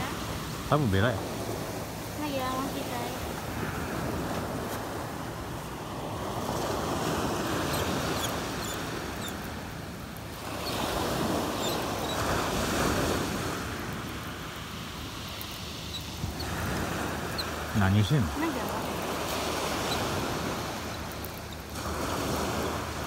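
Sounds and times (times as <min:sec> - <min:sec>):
small waves breaking on gravel beach: 0:00.0 - 0:23.0.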